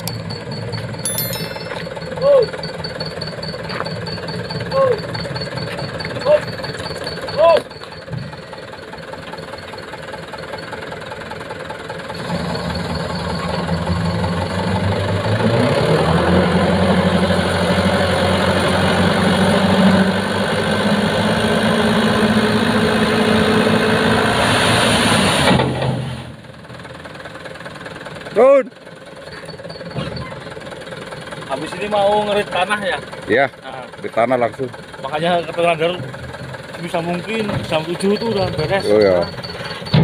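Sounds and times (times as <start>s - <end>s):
diesel truck engine running: 1.8s - 40.0s.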